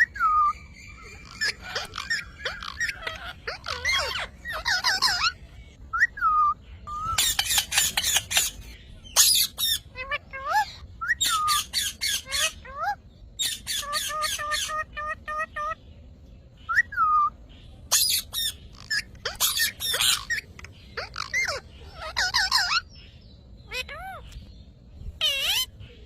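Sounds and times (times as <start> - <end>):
parrot squawking: 0.0 - 15.8, 17.9 - 22.9, 23.6 - 24.3, 25.2 - 25.8.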